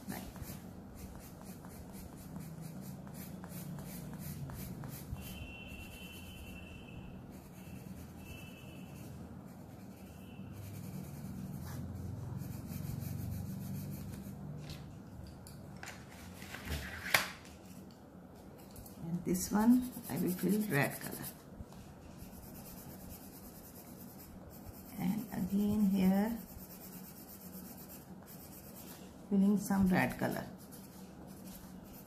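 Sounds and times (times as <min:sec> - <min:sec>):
pencil scratching on paper: 0:00.0 - 0:14.6, 0:18.8 - 0:32.0.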